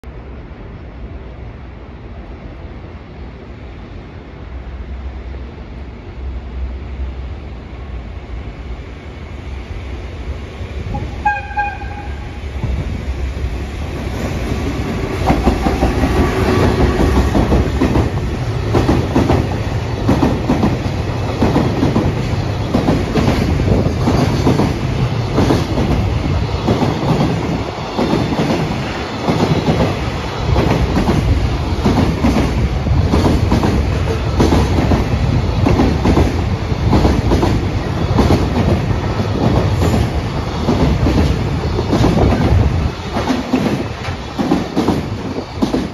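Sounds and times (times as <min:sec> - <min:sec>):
electric locomotive passing: 0:00.1 - 0:45.9.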